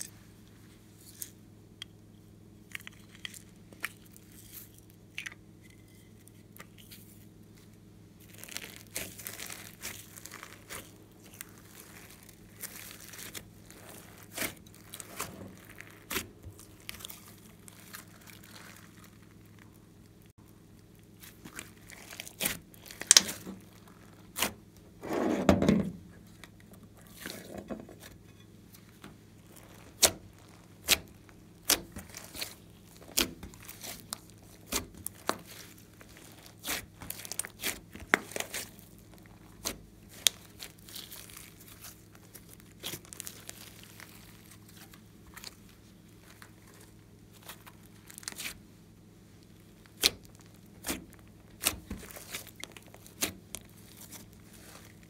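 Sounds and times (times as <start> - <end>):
slime squelch: 0.0 - 25.0, 26.1 - 55.0.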